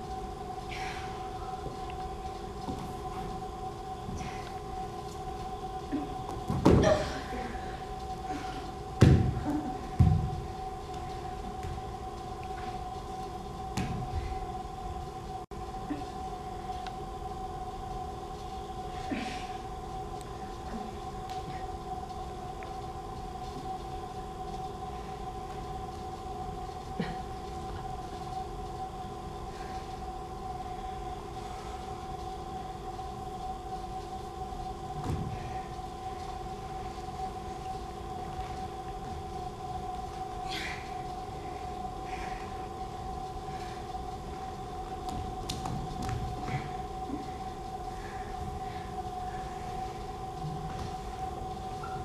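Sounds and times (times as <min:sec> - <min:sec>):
steady droning tone: 0:00.0 - 0:52.0.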